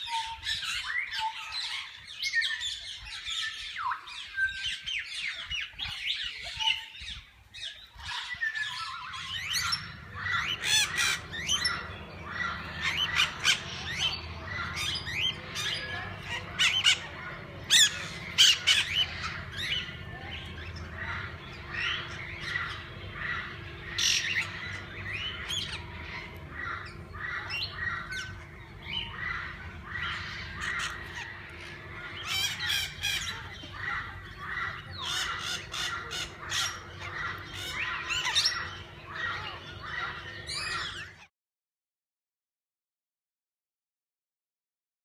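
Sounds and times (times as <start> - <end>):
parakeets squawking and chirping: 0.0 - 41.3.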